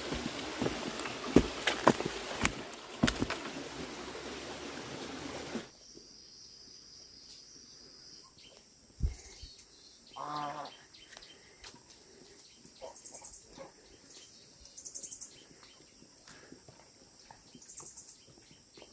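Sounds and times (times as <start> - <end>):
outdoor ambience: 0.0 - 18.9.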